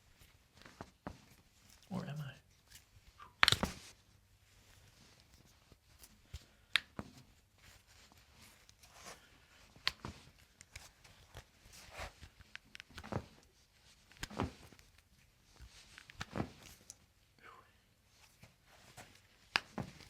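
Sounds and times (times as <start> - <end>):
soft rustling and shuffling: 0.0 - 20.0.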